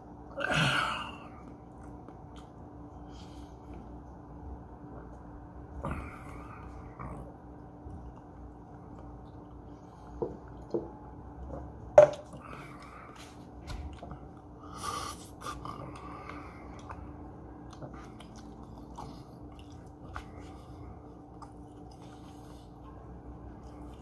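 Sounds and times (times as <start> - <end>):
chewing food: 1.2 - 24.0.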